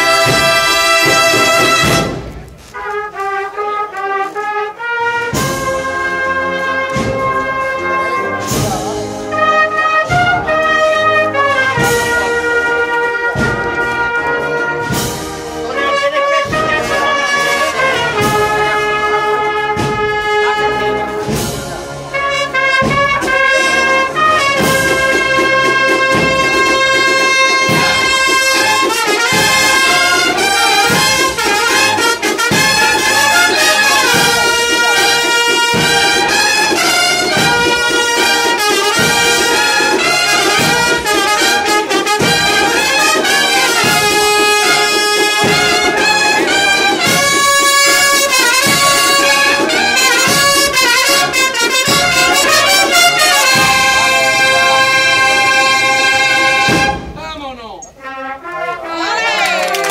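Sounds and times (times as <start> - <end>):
drum beat: 0.0 - 57.8
brass band playing a march: 0.0 - 59.9.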